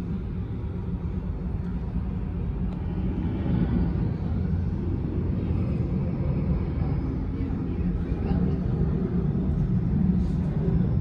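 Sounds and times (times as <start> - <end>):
jet engines rumbling during takeoff: 0.0 - 11.0.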